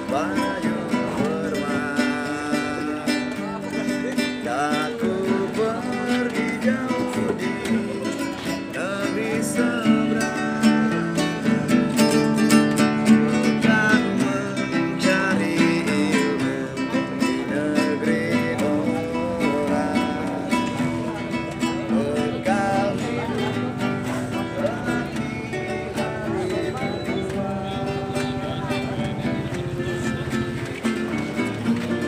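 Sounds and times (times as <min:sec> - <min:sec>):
acoustic guitar strummed chords: 0:00.0 - 0:32.0
man singing: 0:00.0 - 0:32.0.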